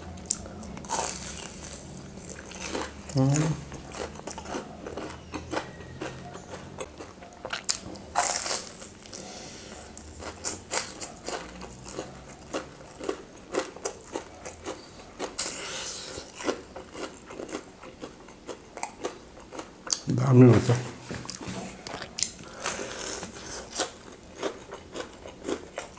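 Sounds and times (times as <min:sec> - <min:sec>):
chewing and crunching food: 0:00.0 - 0:20.1, 0:21.2 - 0:25.9.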